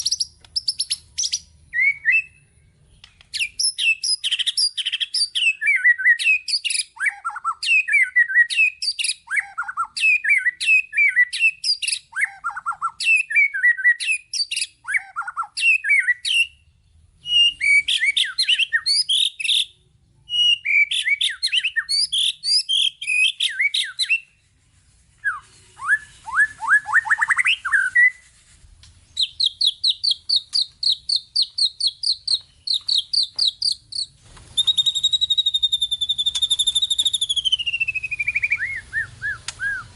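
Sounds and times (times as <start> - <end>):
songbird singing whistled phrases: 0.0 - 24.4, 25.2 - 28.2, 29.1 - 39.9.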